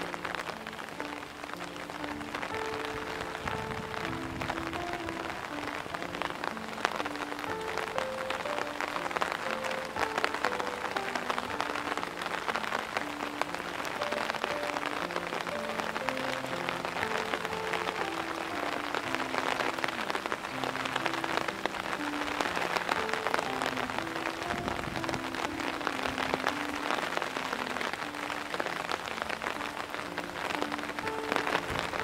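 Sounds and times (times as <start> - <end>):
heavy rain pattering: 0.0 - 32.0
slow melody of held notes: 0.0 - 32.0.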